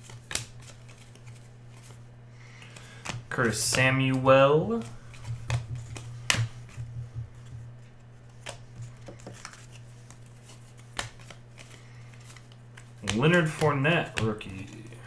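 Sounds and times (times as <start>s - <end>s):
steady low hum: 0.0s - 15.0s
trading cards snapping and sliding: 0.0s - 15.0s.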